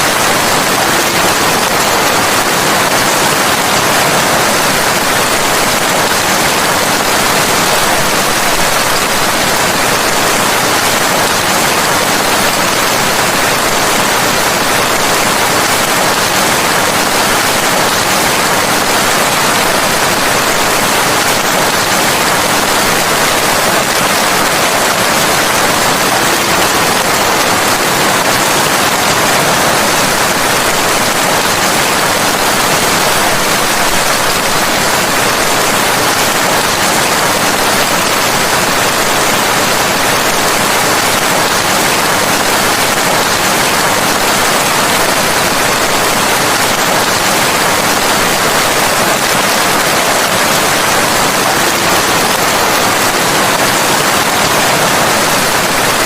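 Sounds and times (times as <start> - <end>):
dense rain hiss: 0.0 - 56.0.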